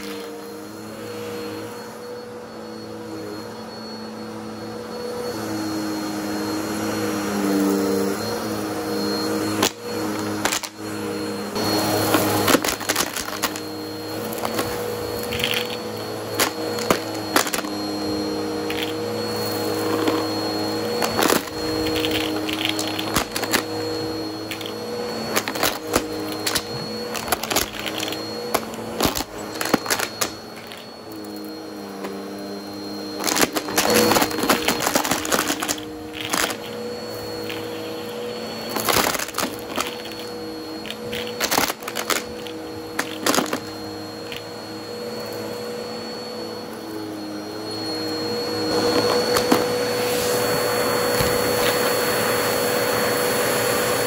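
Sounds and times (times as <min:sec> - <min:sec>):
vacuum cleaner motor humming: 0:00.0 - 0:54.0.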